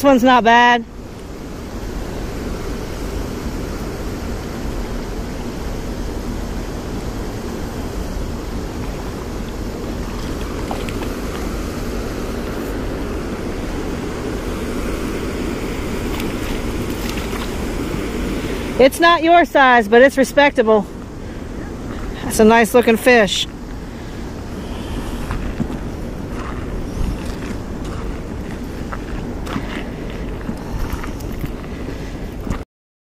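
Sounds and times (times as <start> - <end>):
water rushing from spillway: 0.0 - 32.6.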